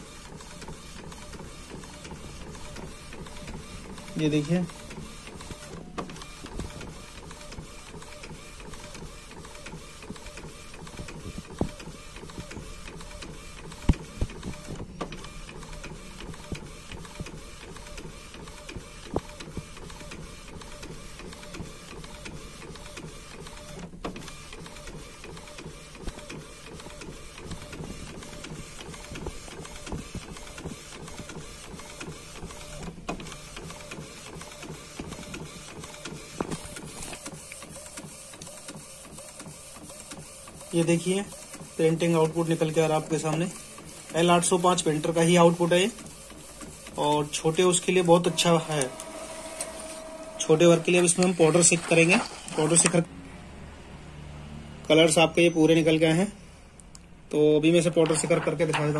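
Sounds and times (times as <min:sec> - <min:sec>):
sharp printer clicks: 0:00.0 - 0:53.0, 0:57.8 - 0:58.9
printer carriage moving: 0:00.0 - 0:53.1, 0:57.7 - 0:58.9.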